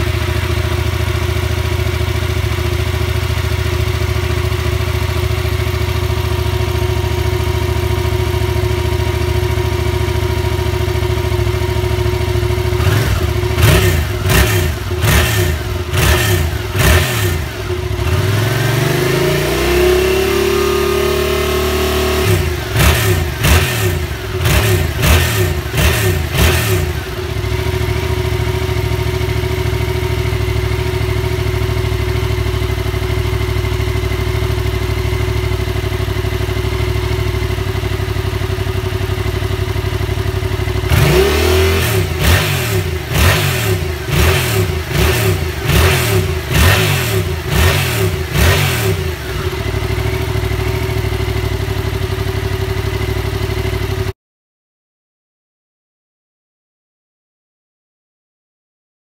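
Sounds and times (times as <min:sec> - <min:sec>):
motorcycle engine idling and revving: 0:00.0 - 0:54.2.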